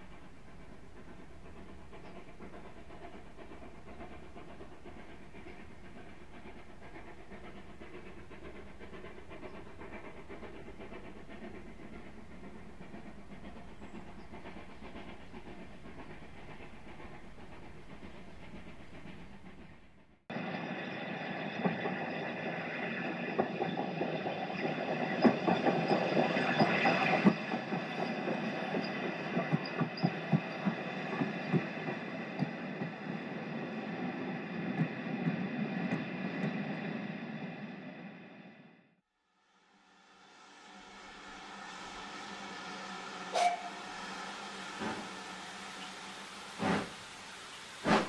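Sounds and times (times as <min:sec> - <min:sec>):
train clickety-clack over rail joints: 0:00.0 - 0:38.1, 0:43.3 - 0:48.0.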